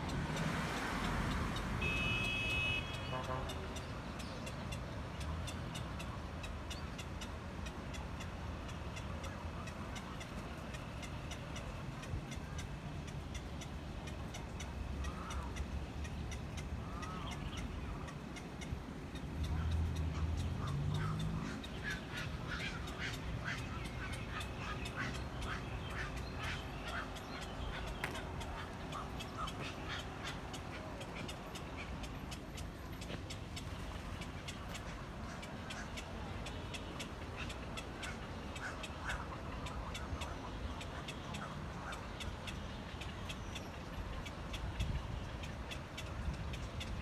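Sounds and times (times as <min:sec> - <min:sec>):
bird calls: 0:01.1 - 0:47.0
rapid steady ticking: 0:01.2 - 0:47.0.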